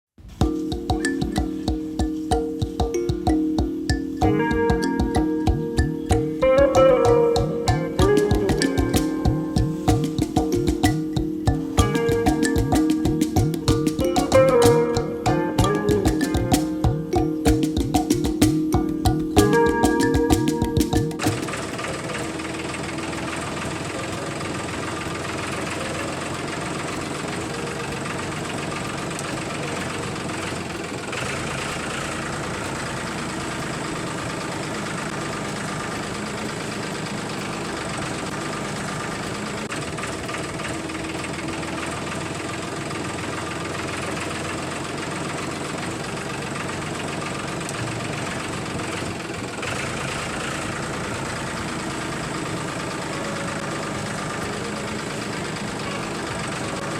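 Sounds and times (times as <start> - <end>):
small tractor motor running: 0.2 - 56.9.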